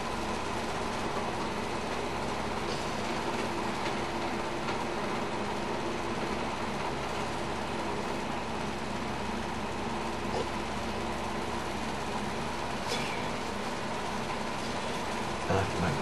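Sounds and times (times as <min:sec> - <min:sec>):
droning hum: 0:00.0 - 0:16.0.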